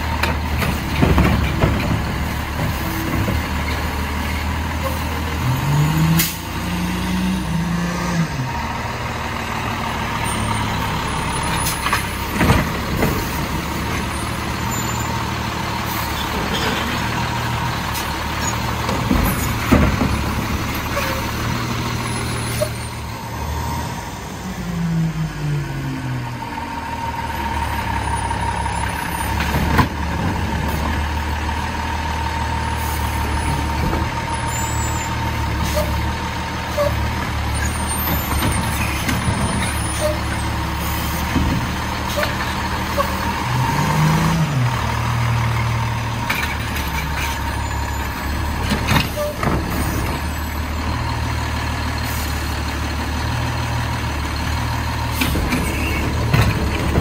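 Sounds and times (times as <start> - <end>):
garbage truck diesel engine: 0.0 - 57.0.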